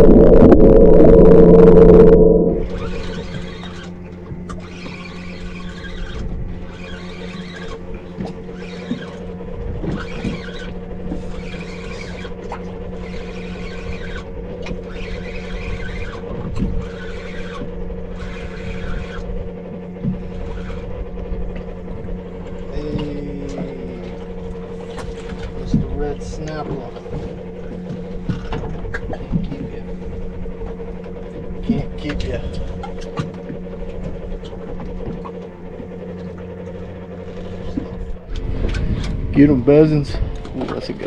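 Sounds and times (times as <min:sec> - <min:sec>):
fishing reel whirring: 0:00.0 - 0:29.0, 0:29.6 - 0:40.2
steady low hum: 0:00.0 - 0:41.0.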